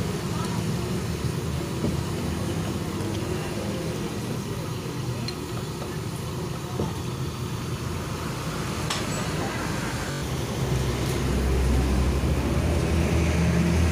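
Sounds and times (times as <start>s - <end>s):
road traffic hum: 0.0s - 13.9s.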